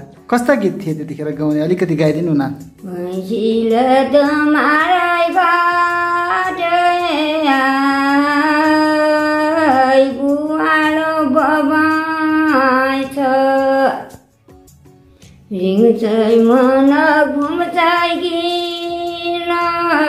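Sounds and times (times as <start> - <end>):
woman singing unaccompanied: 2.7 - 14.3, 15.5 - 20.0.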